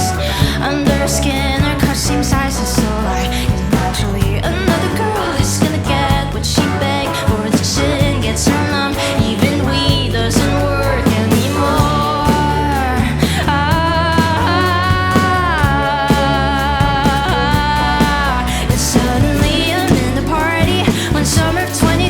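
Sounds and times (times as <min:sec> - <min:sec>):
steady bass: 0:00.0 - 0:22.0.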